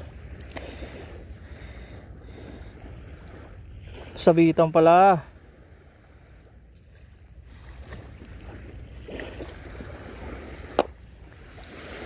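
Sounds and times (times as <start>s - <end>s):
water washing on shore: 0.0s - 12.0s
wind rumbling on microphone: 0.0s - 12.0s.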